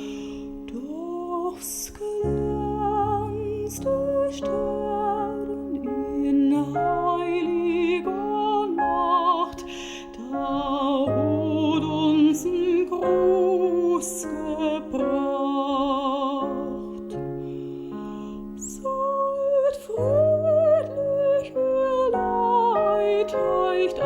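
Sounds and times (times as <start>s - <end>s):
soft instrumental accompaniment: 0.0s - 24.0s
soprano singing with vibrato: 0.0s - 24.0s.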